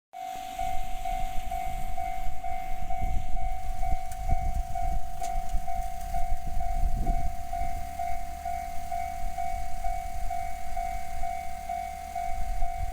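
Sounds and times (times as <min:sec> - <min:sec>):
level crossing warning bell: 0:00.2 - 0:12.9.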